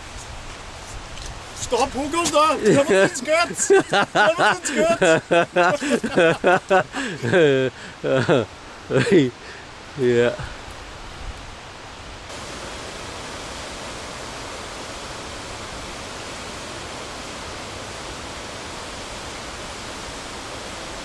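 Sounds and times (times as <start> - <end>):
waterfall roaring: 1.6 - 10.7, 12.3 - 21.0.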